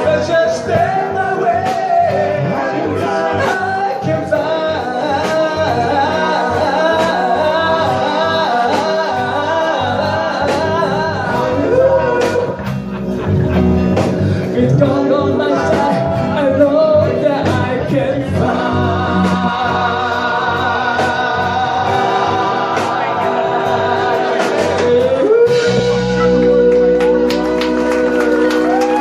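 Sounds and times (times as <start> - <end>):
gospel-style singing: 0.0 - 13.4, 14.0 - 29.0
backing music: 0.0 - 29.0.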